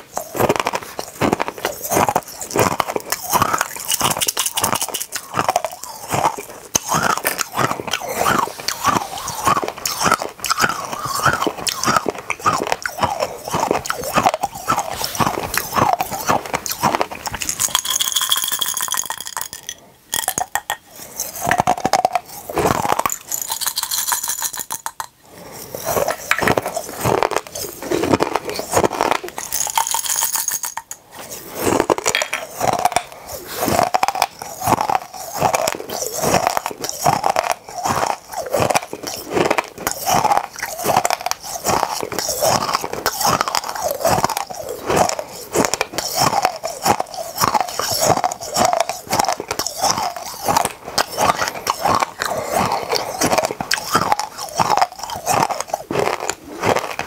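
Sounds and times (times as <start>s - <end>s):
crunching and chewing candies: 0.0s - 57.0s.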